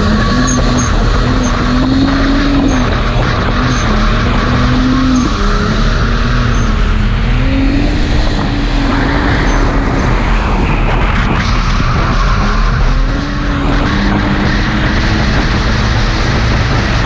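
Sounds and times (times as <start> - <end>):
car engine revving hard: 0.0 - 17.0
wind and road noise: 0.0 - 17.0.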